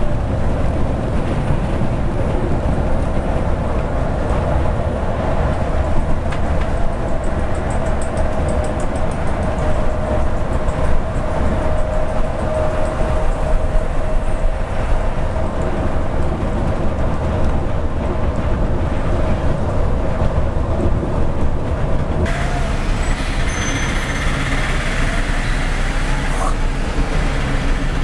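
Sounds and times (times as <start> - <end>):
bus engine drone: 0.0 - 28.0
road and wind noise: 0.0 - 28.0.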